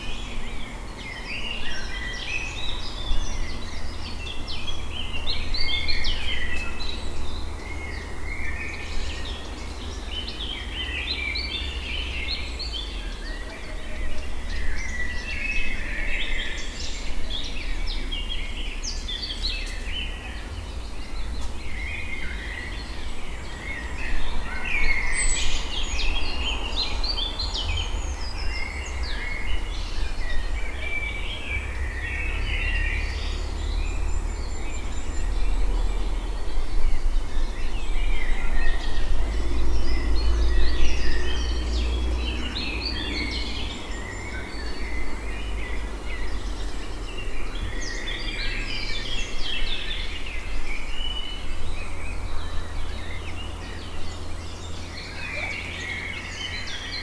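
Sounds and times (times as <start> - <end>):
birds singing and calling: 0.0 - 57.0.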